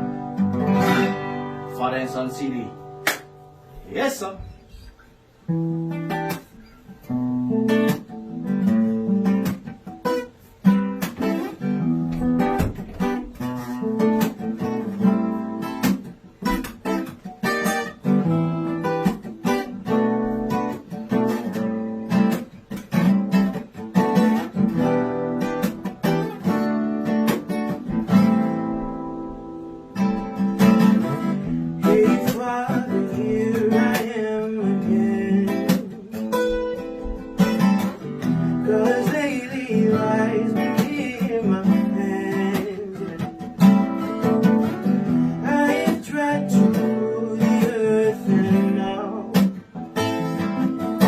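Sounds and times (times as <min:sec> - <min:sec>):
acoustic guitar chords: 0:00.0 - 0:51.0.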